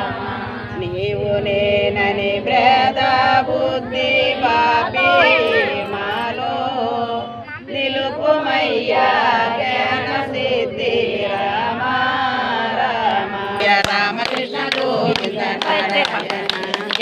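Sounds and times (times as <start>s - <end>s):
voices chanting a hymn: 0.0s - 17.0s.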